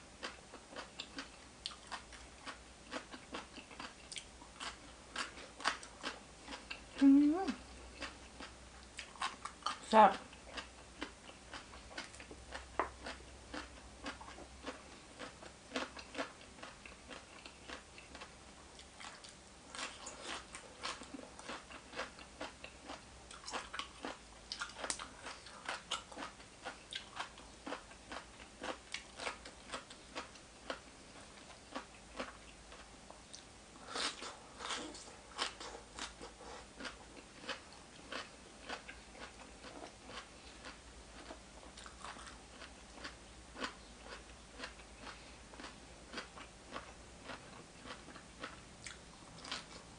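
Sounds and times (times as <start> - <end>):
person chewing crunchy food: 0.2 - 49.9.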